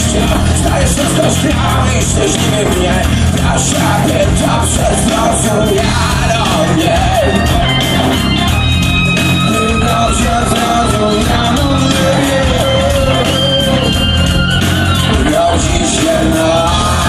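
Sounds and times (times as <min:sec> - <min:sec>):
man singing and shouting: 0:00.0 - 0:07.7, 0:09.4 - 0:17.0
loud live rock band: 0:00.0 - 0:17.0.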